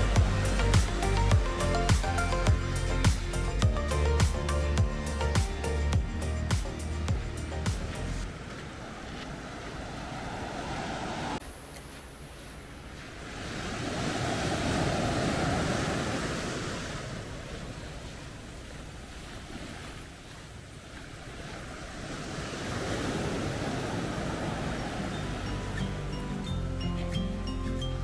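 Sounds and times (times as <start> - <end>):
sea waves breaking: 0.0 - 27.6.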